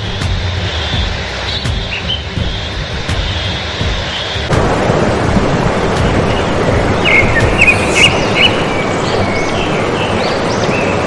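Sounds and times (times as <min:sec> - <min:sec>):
waterfall roaring: 0:00.8 - 0:11.0.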